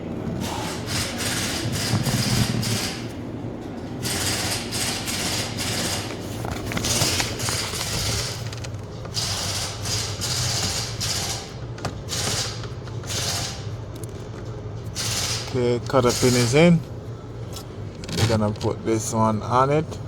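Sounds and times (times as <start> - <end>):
steady low hum: 0.0 - 20.0
rustling and scraping: 0.1 - 14.9, 17.4 - 18.8.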